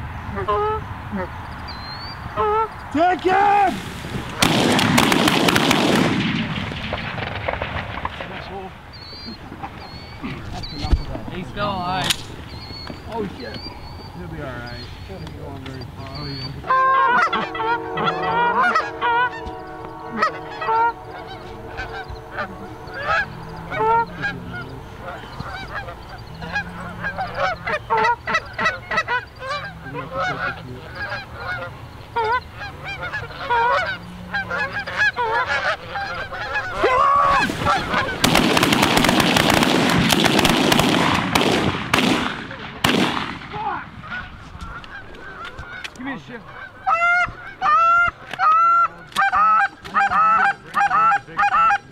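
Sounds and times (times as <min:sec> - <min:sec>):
geese honking: 0:00.0 - 0:51.9.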